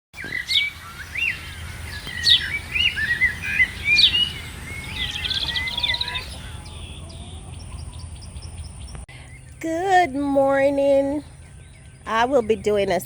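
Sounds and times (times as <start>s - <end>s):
bird trill: 0.2s - 13.0s
birds singing and chirping: 0.2s - 13.0s.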